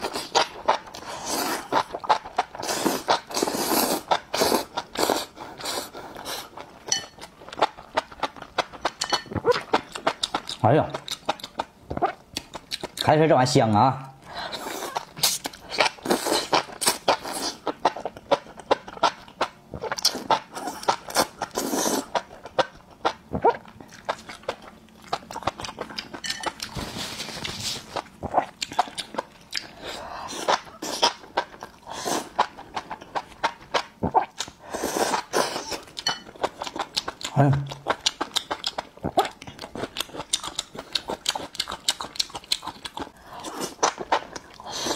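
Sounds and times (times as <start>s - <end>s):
person slurping and chewing: 0.0s - 13.0s, 14.3s - 44.9s.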